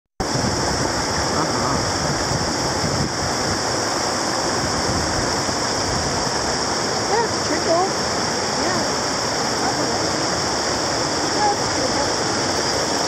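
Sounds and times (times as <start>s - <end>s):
flooded creek rushing: 0.2s - 13.0s.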